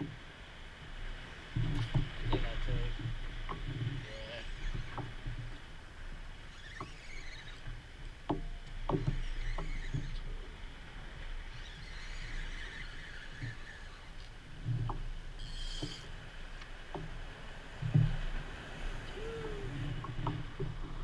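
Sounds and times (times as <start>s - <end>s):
water sloshing against hull: 0.0s - 21.0s.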